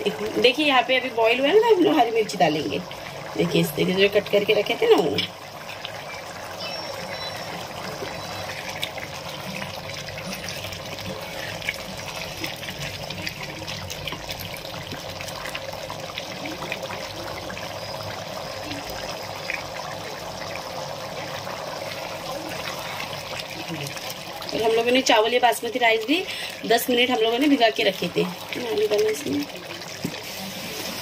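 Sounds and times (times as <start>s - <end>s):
water boiling and bubbling: 0.0s - 31.0s.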